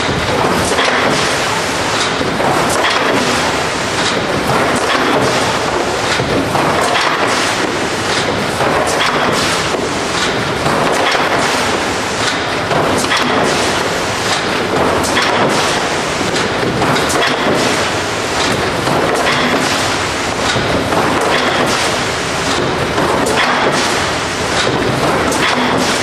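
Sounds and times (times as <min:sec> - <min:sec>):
machine clattering: 0:00.0 - 0:26.0.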